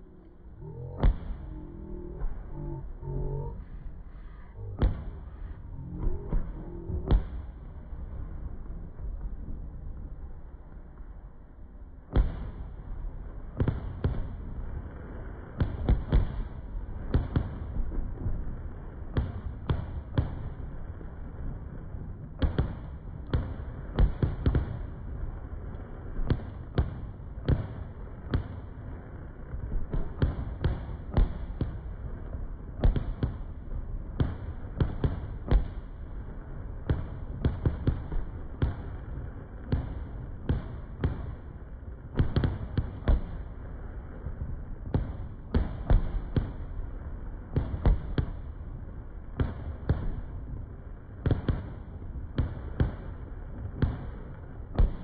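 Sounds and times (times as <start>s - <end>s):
fireworks booming: 0.0s - 9.1s, 12.1s - 55.0s.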